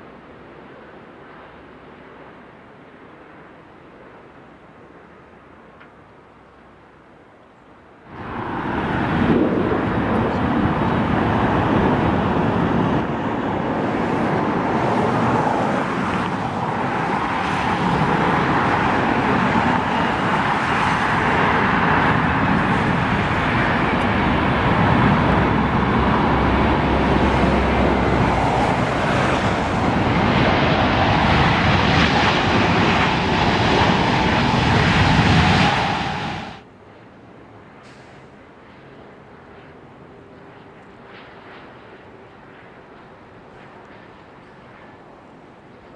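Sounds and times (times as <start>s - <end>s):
jet engines roaring with whine: 0.0s - 45.9s.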